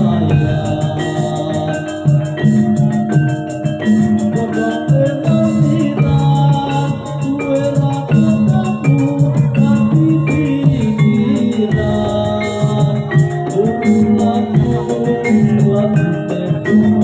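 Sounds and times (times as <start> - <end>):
steady drumming: 0.0 - 17.0
struck metal instruments melody: 0.0 - 17.0.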